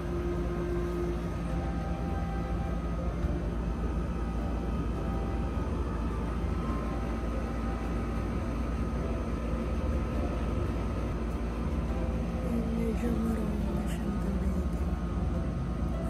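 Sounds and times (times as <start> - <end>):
faint hum: 0.0 - 16.0
low background rumble: 0.0 - 16.0.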